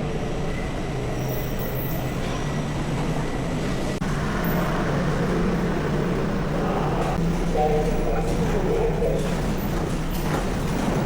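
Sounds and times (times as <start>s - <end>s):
vehicle and road noise: 0.0s - 11.0s.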